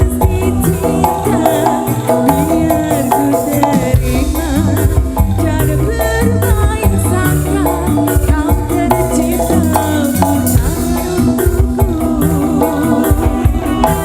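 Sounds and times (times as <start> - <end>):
bass line: 0.0 - 14.0
bending melodic lead: 0.0 - 14.0
live band playing instrumental: 0.0 - 14.0
percussion: 0.0 - 14.0.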